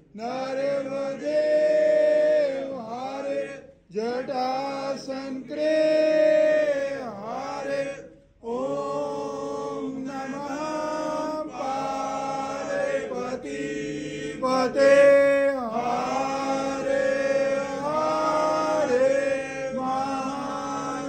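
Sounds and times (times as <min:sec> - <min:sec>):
hymn chanted in long held notes: 0:00.2 - 0:21.0.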